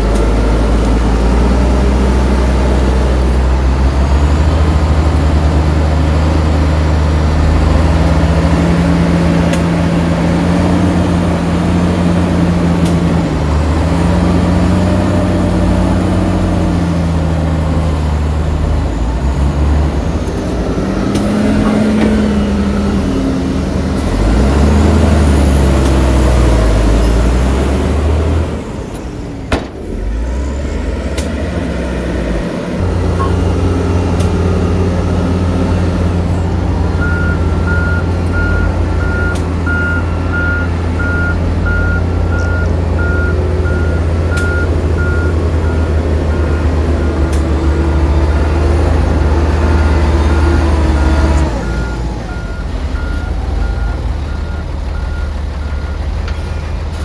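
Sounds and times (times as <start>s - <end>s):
heavy diesel engine revving: 0.0s - 57.0s.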